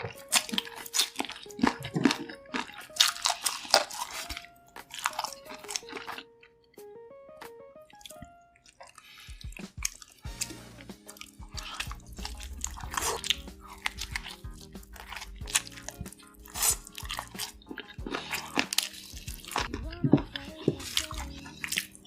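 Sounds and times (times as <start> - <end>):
chewing and biting food: 0.0 - 6.7, 7.9 - 22.0
background music: 0.0 - 22.0.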